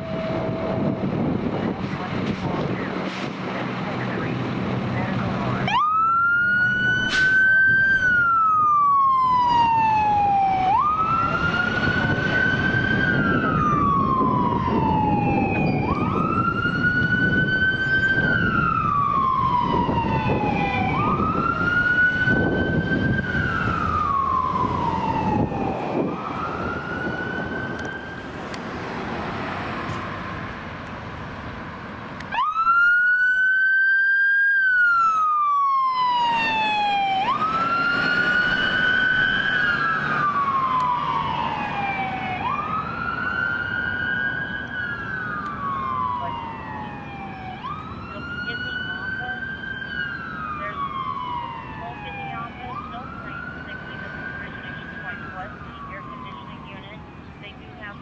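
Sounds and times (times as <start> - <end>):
fire engine siren wailing: 0.0 - 58.0
vehicle noise: 0.0 - 58.0.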